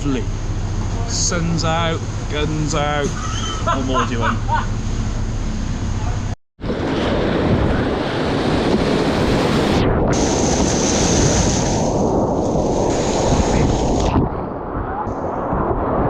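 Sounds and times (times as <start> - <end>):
water buffeting microphone: 0.0 - 16.0.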